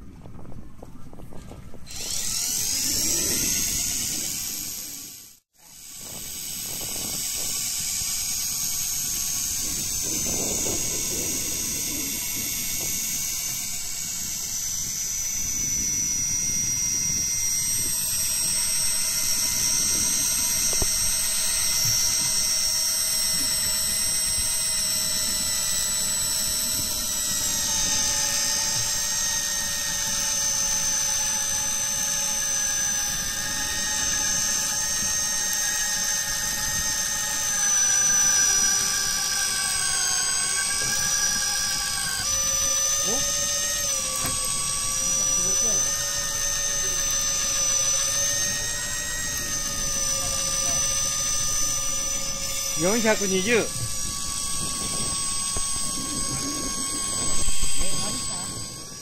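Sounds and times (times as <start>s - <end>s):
fishing reel motor whining: 1.1s - 59.0s.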